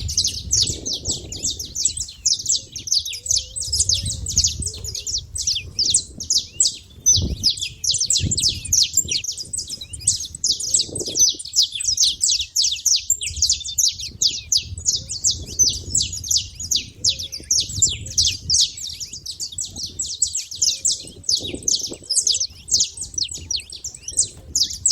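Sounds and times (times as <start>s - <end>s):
finches chirping: 0.0s - 24.9s.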